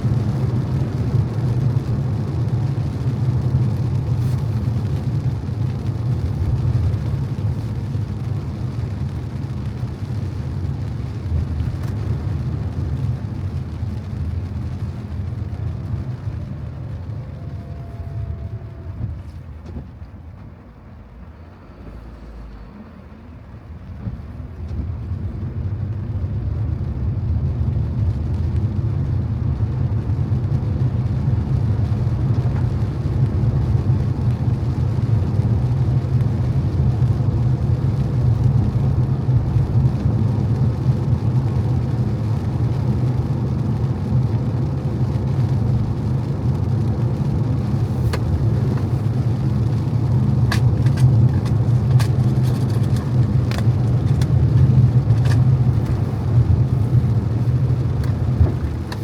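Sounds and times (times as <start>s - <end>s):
car engine and tyres rumbling: 0.0s - 59.0s
tyres hissing on wet road: 0.0s - 59.0s.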